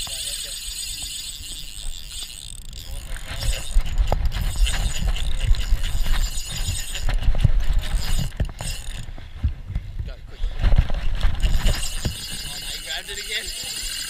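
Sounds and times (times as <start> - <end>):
fishing reel clicking: 0.0 - 9.1, 11.4 - 14.0.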